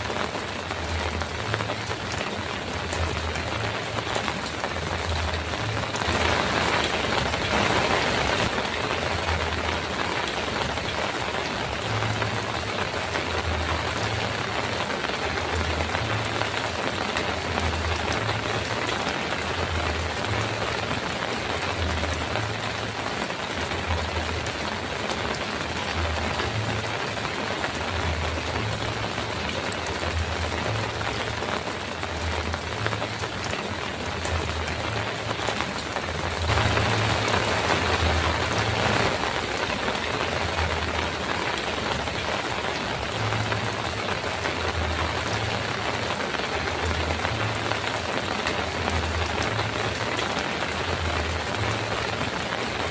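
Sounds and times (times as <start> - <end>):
heavy rain on a metal roof: 0.0 - 52.9.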